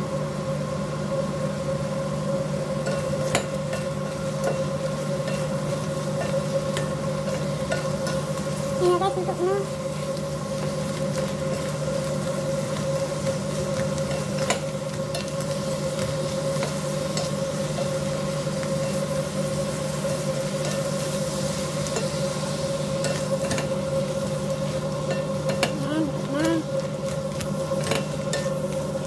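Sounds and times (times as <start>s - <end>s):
shrimp sizzling in a pot: 0.0s - 29.0s
steady hum: 0.0s - 29.0s.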